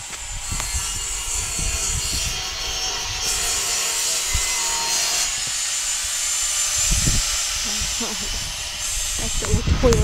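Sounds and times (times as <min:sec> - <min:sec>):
power tool rasping: 0:00.0 - 0:10.0.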